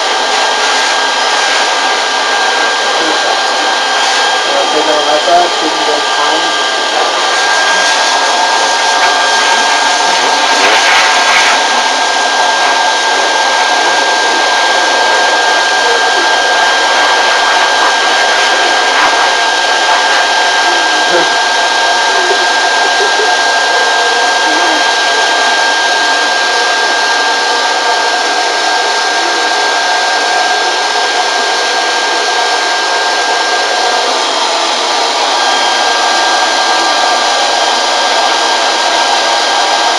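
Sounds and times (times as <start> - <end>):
blow dryer running: 0.0 - 39.9.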